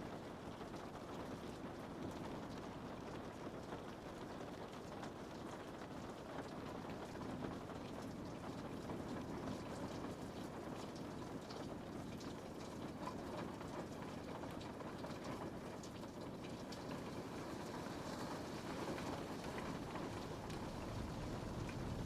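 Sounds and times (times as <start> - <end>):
rain pattering on a window: 0.0 - 22.0.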